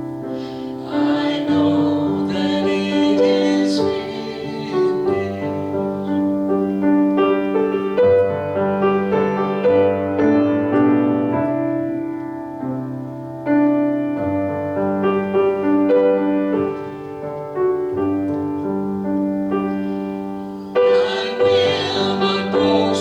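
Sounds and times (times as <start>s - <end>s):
gentle piano instrumental: 0.0s - 23.0s.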